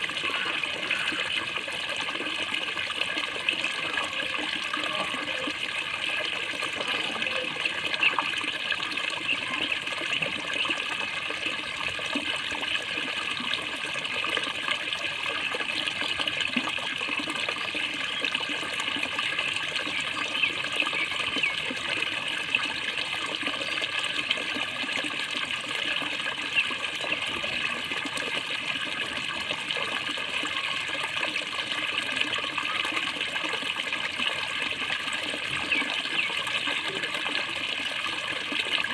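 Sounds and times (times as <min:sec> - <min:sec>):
water gurgling: 0:00.0 - 0:38.9.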